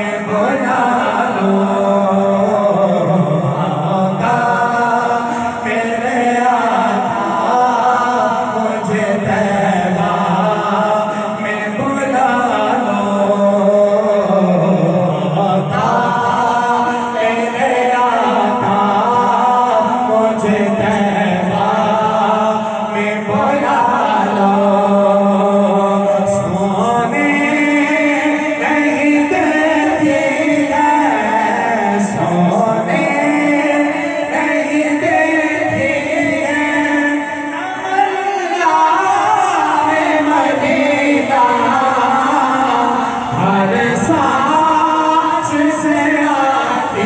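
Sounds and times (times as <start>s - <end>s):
voices singing devotional chant: 0.0s - 47.0s.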